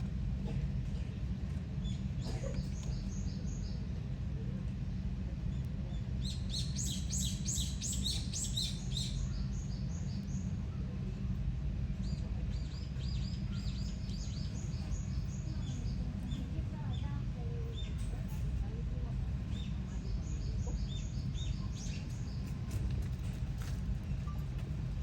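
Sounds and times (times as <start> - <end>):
low outdoor rumble: 0.0 - 25.0
small birds chirping: 0.5 - 4.2, 4.9 - 25.0.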